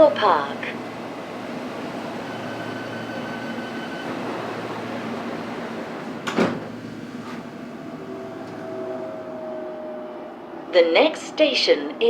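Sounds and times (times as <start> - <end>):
underground train rumbling: 0.0 - 12.0.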